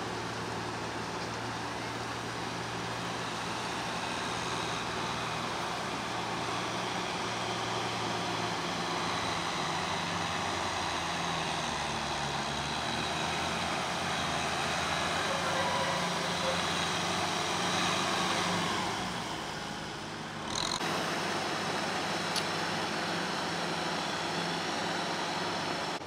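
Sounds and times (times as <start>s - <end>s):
tractor diesel engine: 0.0s - 26.0s.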